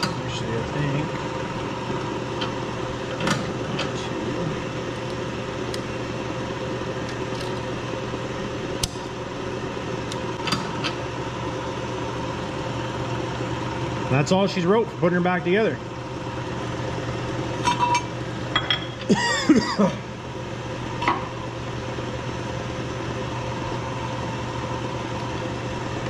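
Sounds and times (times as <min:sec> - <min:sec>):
shop machine humming: 0:00.0 - 0:26.0.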